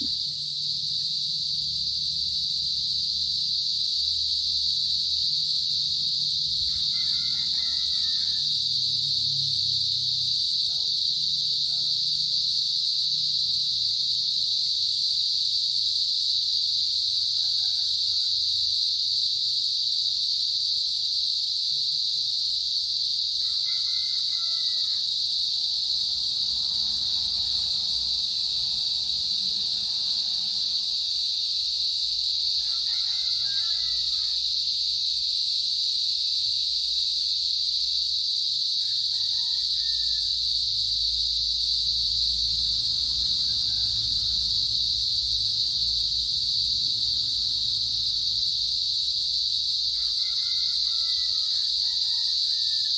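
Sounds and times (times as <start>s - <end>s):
cicadas singing: 0.0s - 52.9s.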